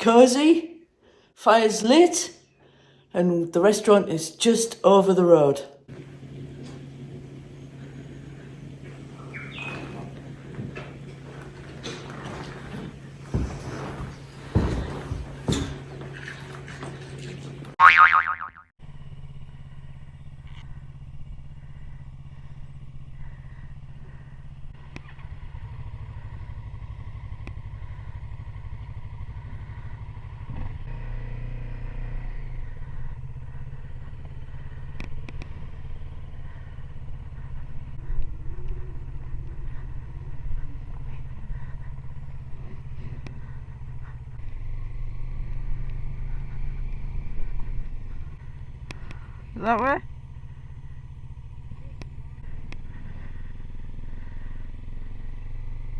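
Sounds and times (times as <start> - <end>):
motorcycle engine droning: 5.8 - 55.9.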